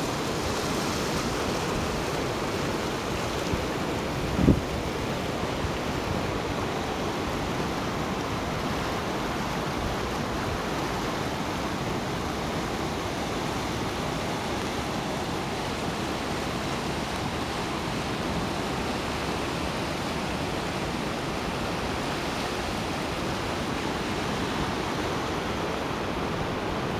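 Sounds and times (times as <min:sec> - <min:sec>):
flooded river rushing: 0:00.0 - 0:26.9.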